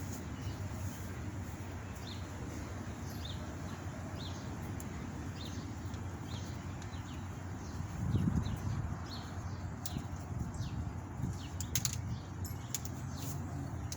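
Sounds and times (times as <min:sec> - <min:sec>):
low rumble of wind: 0:00.0 - 0:13.9
bird chirping: 0:01.8 - 0:13.9.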